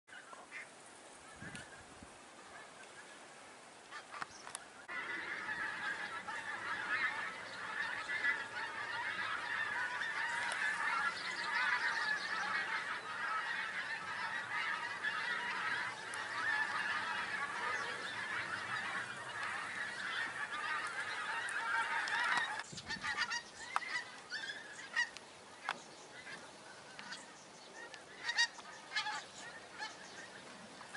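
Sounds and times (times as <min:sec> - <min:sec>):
geese honking: 0:00.1 - 0:30.9.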